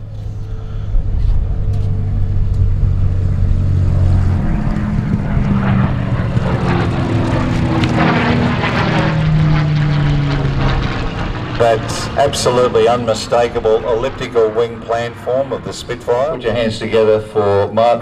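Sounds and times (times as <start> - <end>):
propeller plane engine running: 0.0 - 18.0.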